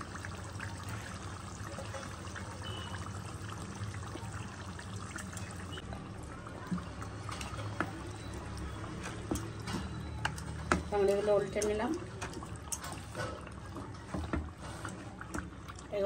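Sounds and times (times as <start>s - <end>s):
sauce bubbling in a pan: 0.0s - 16.0s.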